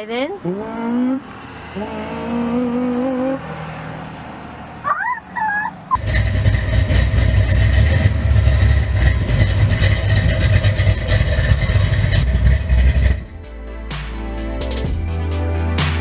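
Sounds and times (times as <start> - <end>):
car engine rumbling: 0.0 - 13.9.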